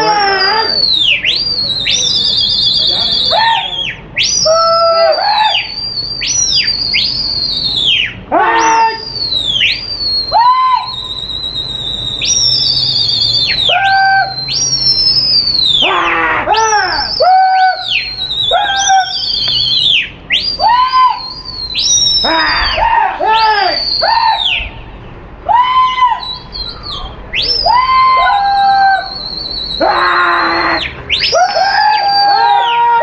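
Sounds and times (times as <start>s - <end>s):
human whistling: 0.0s - 16.0s, 16.6s - 22.6s, 23.6s - 24.7s, 25.9s - 28.2s, 28.8s - 30.0s, 30.7s - 32.8s.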